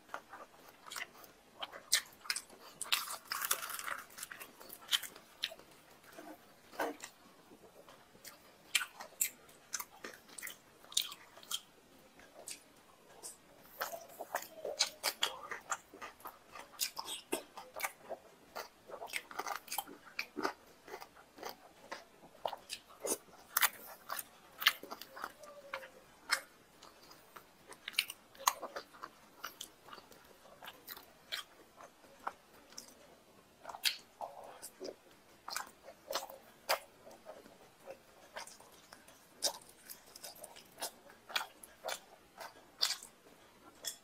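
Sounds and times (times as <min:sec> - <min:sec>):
chewing and lip smacking: 0:00.0 - 0:44.0.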